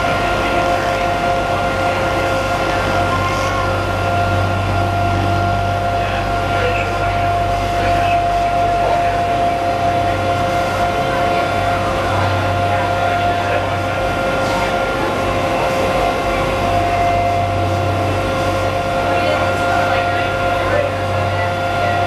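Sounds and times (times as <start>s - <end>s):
boat engine drone with whine: 0.0s - 22.0s.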